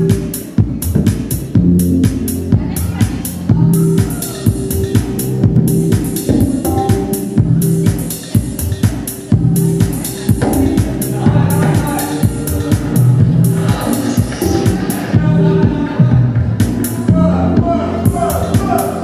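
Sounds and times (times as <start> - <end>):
dance music: 0.0 - 19.0.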